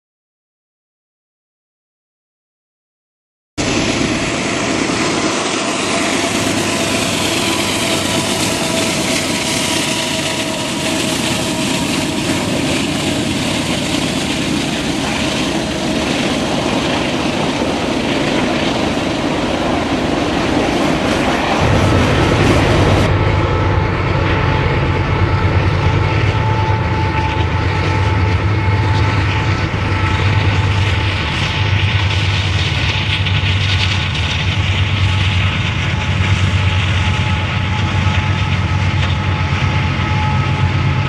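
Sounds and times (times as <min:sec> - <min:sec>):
freight train passing: 0:03.6 - 0:41.0.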